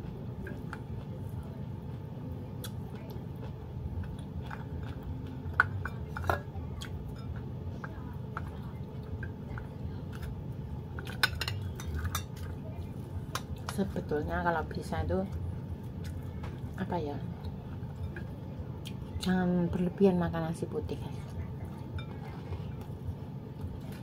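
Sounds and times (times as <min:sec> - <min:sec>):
soft chewing: 0:00.0 - 0:14.1, 0:15.2 - 0:19.4, 0:21.0 - 0:24.0
steady low hum: 0:00.0 - 0:24.0.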